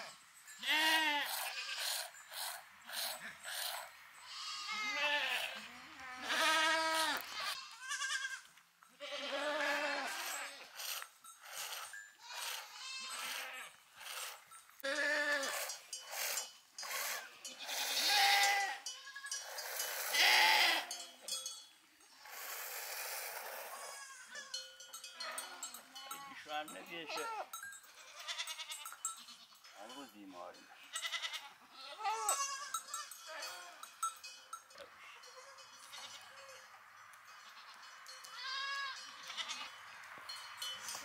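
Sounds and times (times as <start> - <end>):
goats and sheep bleating: 0.0 - 21.4, 23.3 - 36.7, 37.3 - 40.0.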